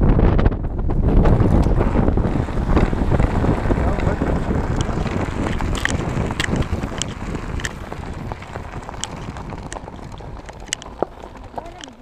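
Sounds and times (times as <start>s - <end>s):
wheels rolling on dirt track: 0.0s - 12.0s
wind rumbling on microphone: 0.0s - 12.0s.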